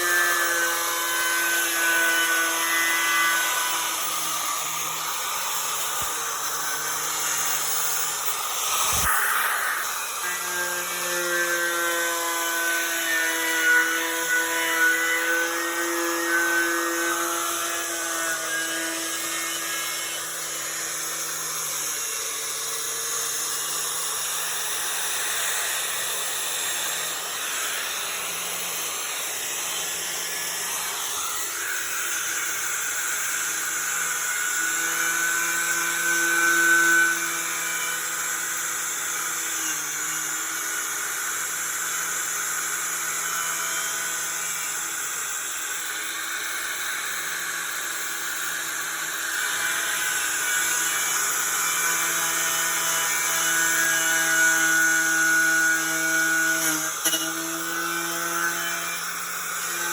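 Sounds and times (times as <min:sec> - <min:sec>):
angle grinder with wire wheel: 0:00.0 - 0:59.9.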